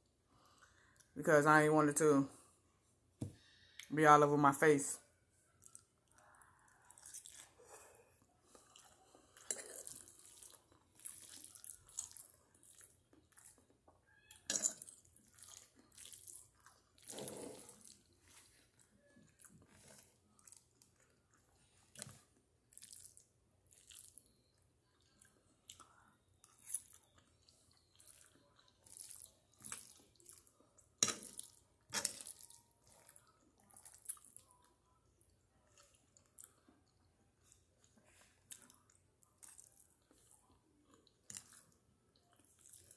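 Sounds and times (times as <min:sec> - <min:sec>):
person chewing food: 0:05.4 - 0:42.9.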